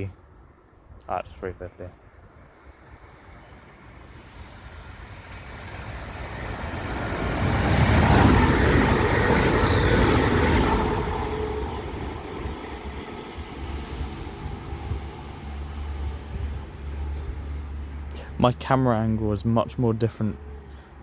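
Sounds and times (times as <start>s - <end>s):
train wheels rumbling on rail: 2.3s - 21.0s.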